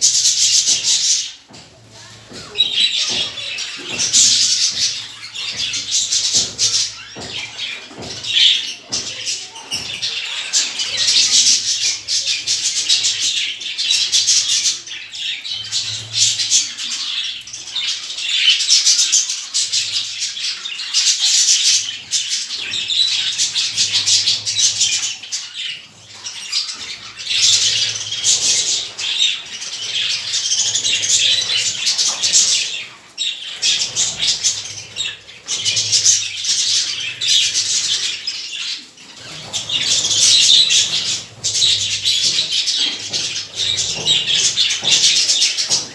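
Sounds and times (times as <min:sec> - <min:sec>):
cage birds chirping: 0:00.0 - 0:45.9.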